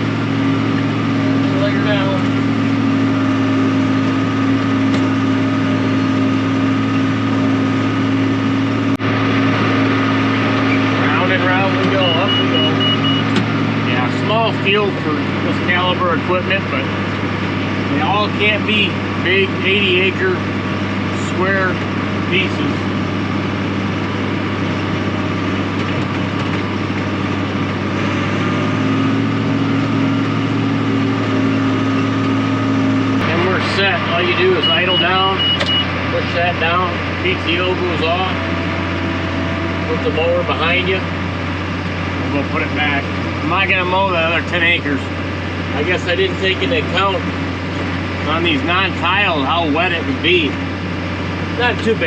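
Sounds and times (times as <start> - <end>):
higher steady tone: 0.0 - 25.7, 26.7 - 51.8
tractor engine droning: 0.0 - 52.0.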